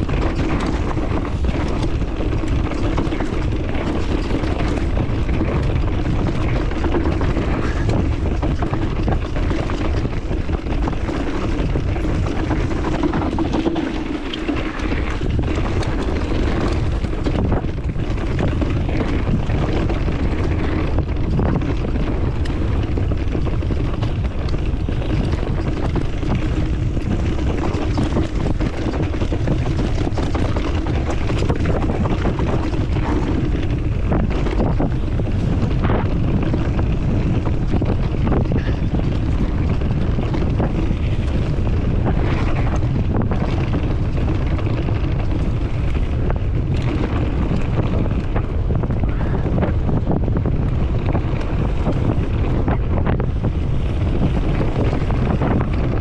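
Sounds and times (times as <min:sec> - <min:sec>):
vehicle low drone: 0:00.0 - 0:56.0
wind buffeting microphone: 0:00.0 - 0:56.0.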